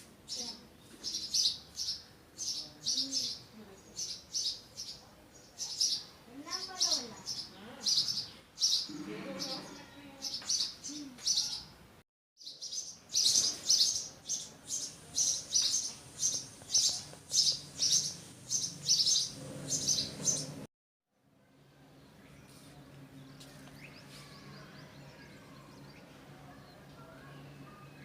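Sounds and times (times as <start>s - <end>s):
small birds chirping: 0.2s - 11.8s, 12.4s - 20.7s, 22.0s - 28.0s.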